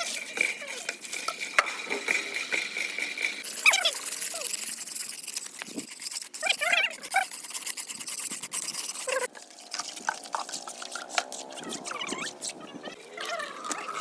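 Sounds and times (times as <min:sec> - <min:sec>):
brush scrubbing: 0:00.0 - 0:13.0.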